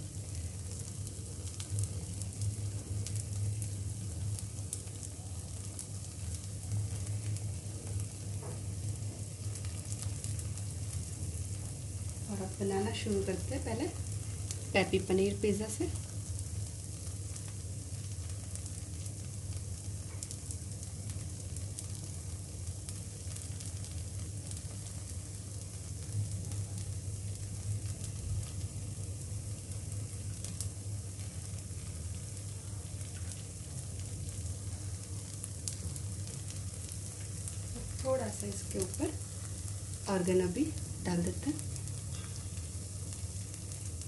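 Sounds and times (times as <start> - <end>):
batter sizzling in a pan: 0.0 - 44.0
faint crackles: 0.0 - 44.0
low steady hum: 0.0 - 44.0.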